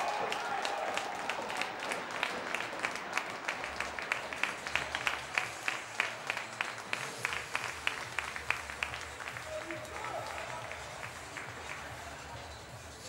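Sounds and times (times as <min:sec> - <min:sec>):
crowd clapping in rhythm: 0:00.0 - 0:13.0.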